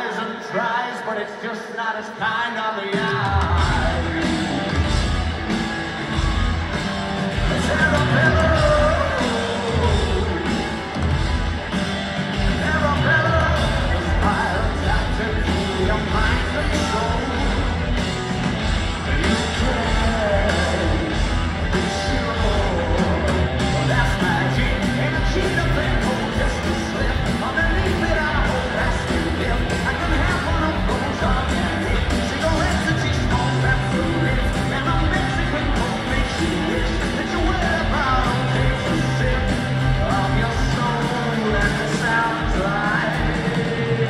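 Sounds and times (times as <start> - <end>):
live rock band: 2.0 - 44.0.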